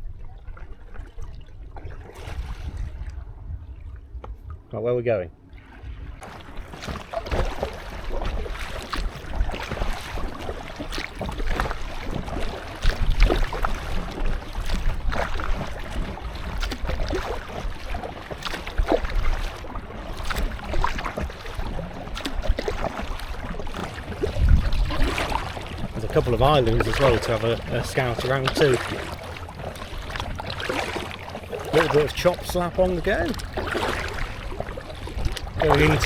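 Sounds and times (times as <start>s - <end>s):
kayak paddle strokes splashing: 0.0s - 3.3s, 5.5s - 36.0s
small waves slapping a hull: 0.0s - 4.8s, 5.4s - 36.0s
wind rumble on microphone: 0.0s - 4.8s, 5.5s - 36.0s.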